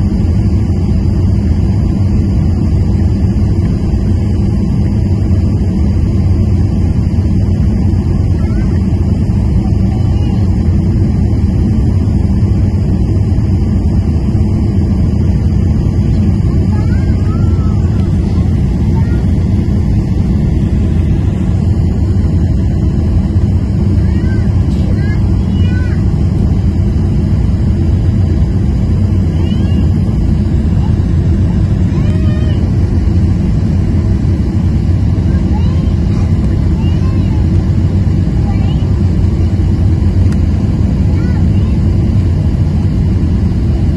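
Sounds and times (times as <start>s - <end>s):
airliner cabin engine rumble: 0.0s - 43.9s
rushing airflow: 0.0s - 43.9s.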